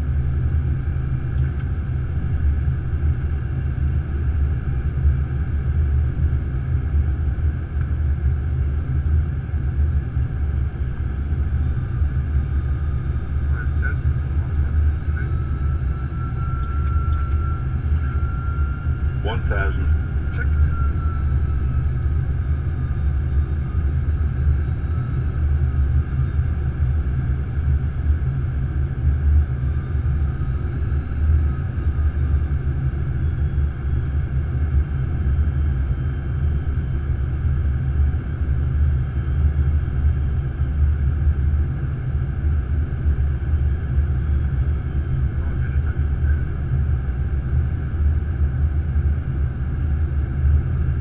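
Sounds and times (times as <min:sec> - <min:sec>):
aircraft cockpit rumble: 0:00.0 - 0:51.0
faint whines: 0:00.0 - 0:51.0.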